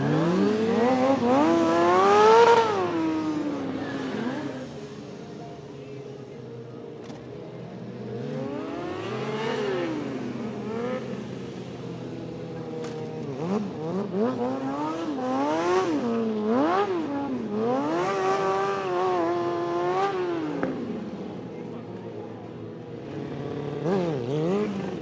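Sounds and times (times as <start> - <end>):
motorcycle engine revving: 0.0 - 4.8, 8.0 - 21.4, 23.0 - 25.0.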